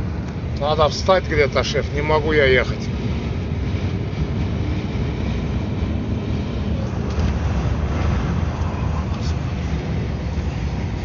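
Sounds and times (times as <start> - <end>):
car running noise: 0.0 - 11.0.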